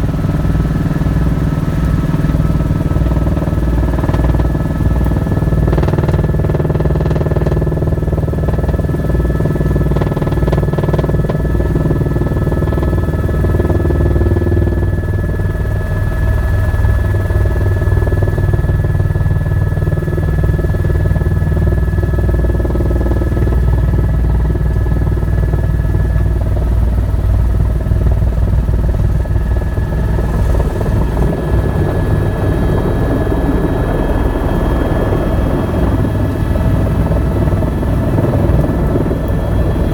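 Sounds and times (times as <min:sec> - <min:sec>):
helicopter turbine whine: 0:00.0 - 0:39.9
rotor blades beating: 0:00.0 - 0:39.9.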